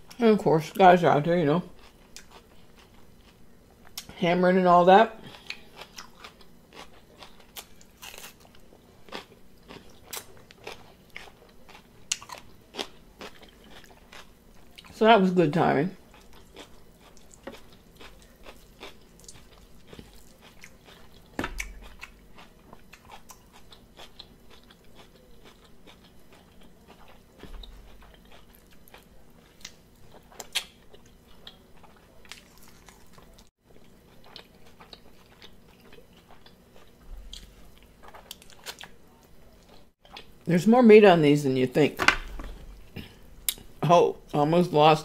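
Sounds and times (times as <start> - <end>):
chewing and mouth sounds: 1.7 - 4.1, 5.2 - 15.0, 16.0 - 40.5.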